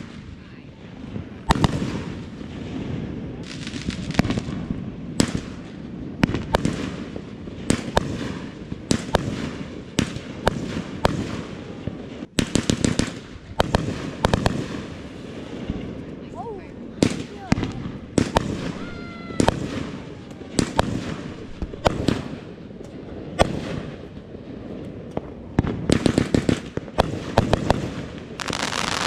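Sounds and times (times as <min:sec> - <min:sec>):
fireworks bangs: 0:00.0 - 0:29.0
fireworks crackle: 0:00.0 - 0:29.0.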